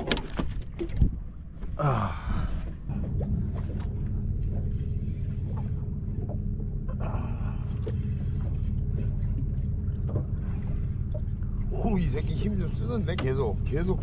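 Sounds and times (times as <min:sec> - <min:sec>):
boat motor idling: 0:00.0 - 0:14.0.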